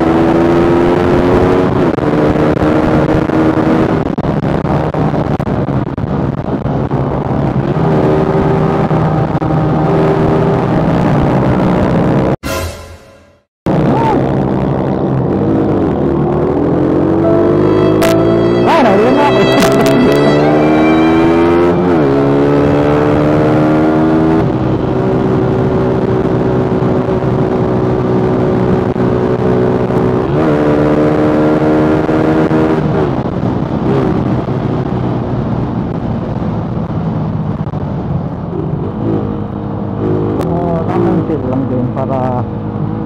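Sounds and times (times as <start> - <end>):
motorcycle engine accelerating: 0.0 - 12.4, 14.1 - 43.0.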